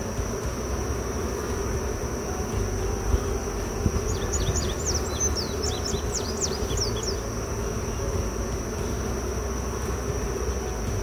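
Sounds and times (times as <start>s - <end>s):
honeybees buzzing: 0.0s - 11.0s
songbird chirping: 0.0s - 11.0s
thin high whine: 0.0s - 11.0s.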